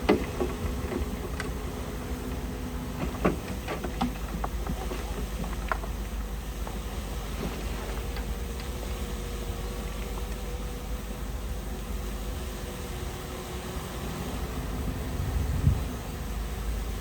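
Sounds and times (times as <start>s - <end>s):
diesel earthmoving machine rumbling: 0.0s - 17.0s.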